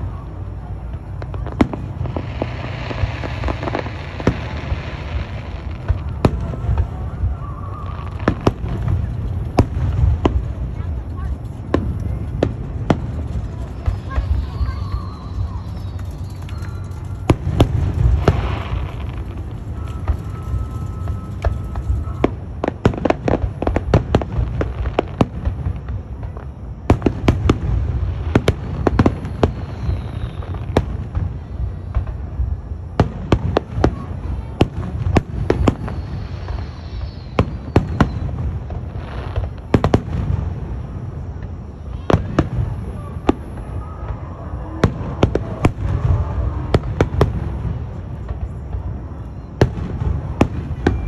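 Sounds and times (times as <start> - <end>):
firework bangs and crackles: 0.0 - 51.0.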